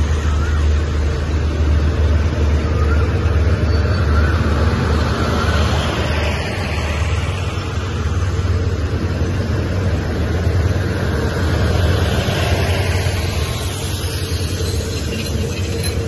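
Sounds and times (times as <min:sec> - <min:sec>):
train carriages rumbling past: 0:00.0 - 0:16.0.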